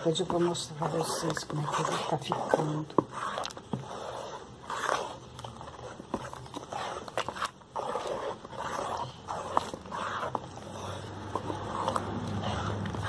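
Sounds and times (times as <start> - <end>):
spoon scraping thick paste: 0.0 - 13.0.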